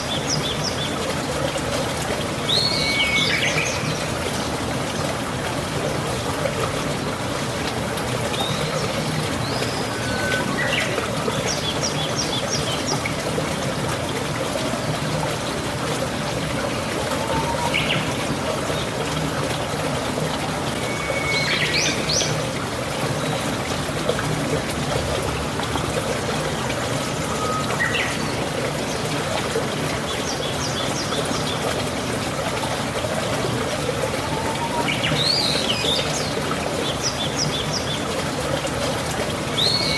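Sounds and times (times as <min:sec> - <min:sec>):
rain falling: 0:00.0 - 0:39.9
water trickling and pouring: 0:00.0 - 0:39.9.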